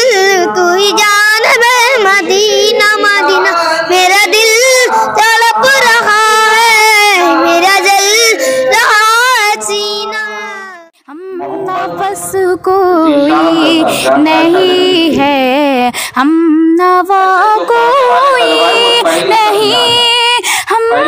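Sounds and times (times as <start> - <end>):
boy singing into a microphone: 0.0 - 21.0.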